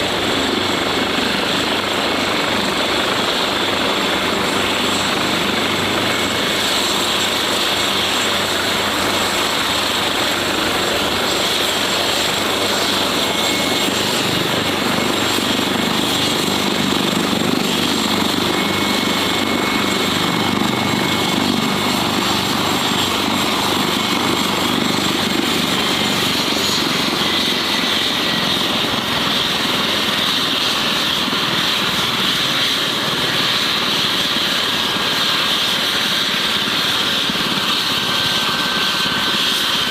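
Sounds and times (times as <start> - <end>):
helicopter running: 0.0 - 39.9
high turbine whine: 0.0 - 39.9.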